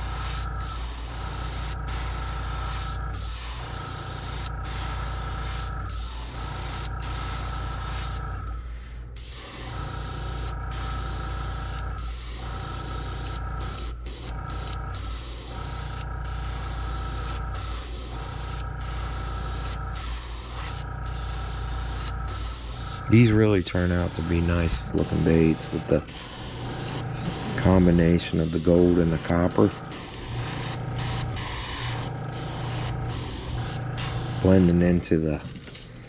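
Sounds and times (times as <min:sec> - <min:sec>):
airbrush spraying hiss: 0:00.0 - 0:08.3, 0:09.2 - 0:34.6.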